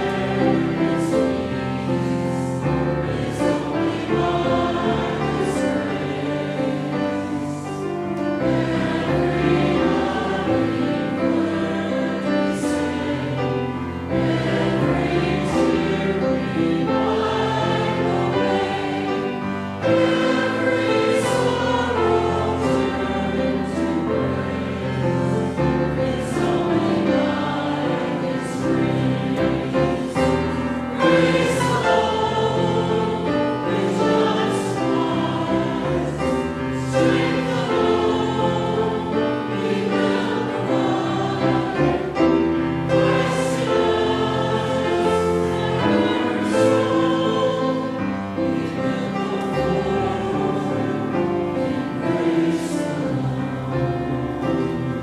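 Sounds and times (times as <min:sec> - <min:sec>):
church choir singing a hymn: 0:00.0 - 0:55.0
instrumental accompaniment: 0:00.0 - 0:55.0.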